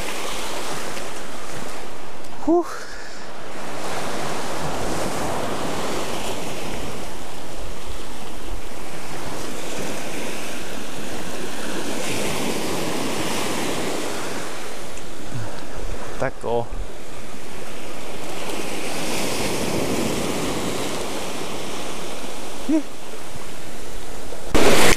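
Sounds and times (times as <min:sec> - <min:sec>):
small surf breaking on shore: 0:00.0 - 0:02.4, 0:03.2 - 0:16.3, 0:16.9 - 0:24.9.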